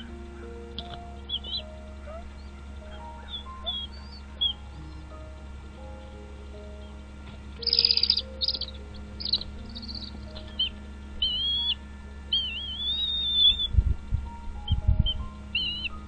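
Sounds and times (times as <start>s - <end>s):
small bird chirping and whistling: 0.0s - 5.3s, 7.6s - 13.8s, 14.6s - 16.0s
faint background music: 0.0s - 16.0s.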